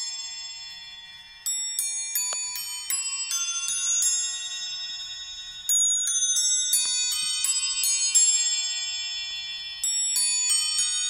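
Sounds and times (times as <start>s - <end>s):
clock chiming on bells: 0.0s - 11.0s.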